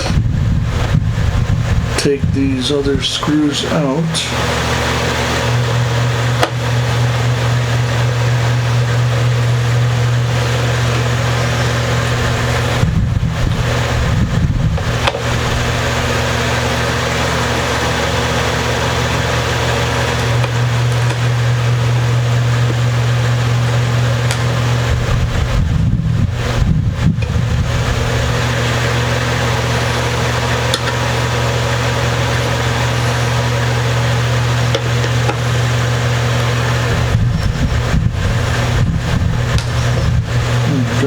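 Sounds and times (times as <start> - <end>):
handling rumble: 0.0 - 41.0
loud low hum: 0.0 - 41.0.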